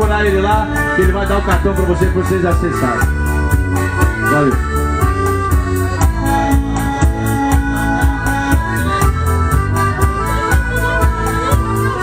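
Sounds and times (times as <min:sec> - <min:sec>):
electronic keyboard dance music: 0:00.0 - 0:12.0.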